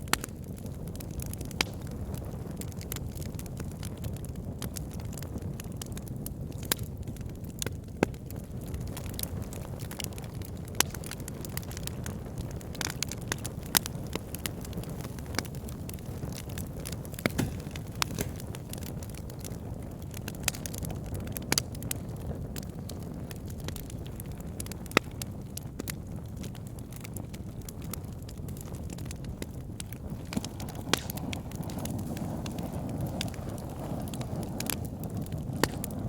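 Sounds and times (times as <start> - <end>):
fire flames rumbling: 0.0 - 36.0
logs crackling and popping: 0.0 - 36.0.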